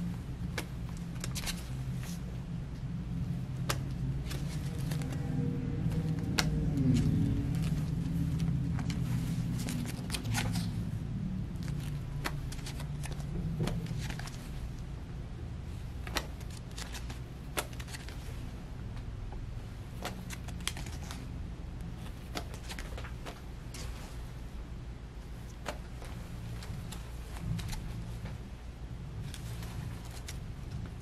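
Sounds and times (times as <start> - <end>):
soft fabric rustling: 0.0 - 15.0, 15.6 - 31.0.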